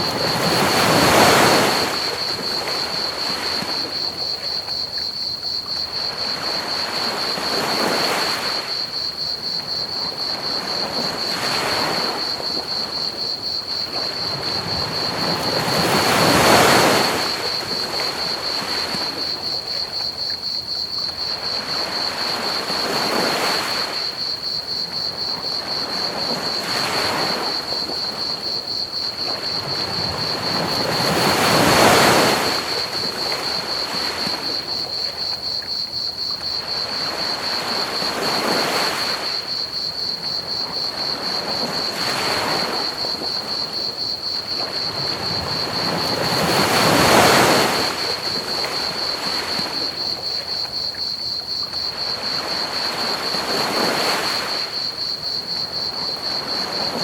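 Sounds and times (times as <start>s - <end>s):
crickets trilling: 0.0s - 57.0s
ocean waves washing onto beach: 0.0s - 57.0s.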